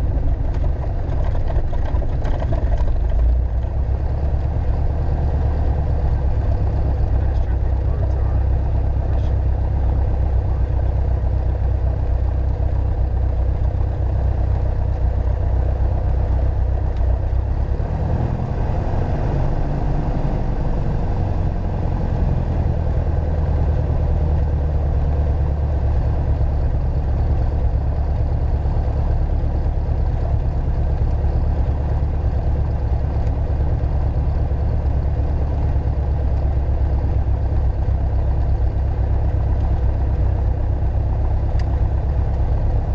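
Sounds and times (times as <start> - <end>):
light aircraft engine running: 0.0 - 42.9.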